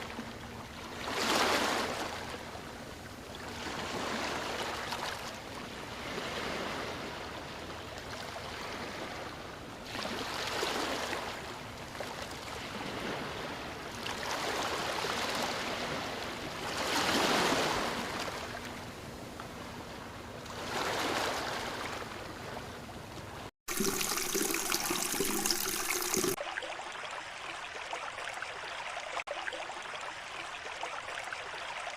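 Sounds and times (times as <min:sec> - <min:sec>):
river water flowing and splashing: 0:00.0 - 0:18.8, 0:20.4 - 0:22.6, 0:23.7 - 0:31.9.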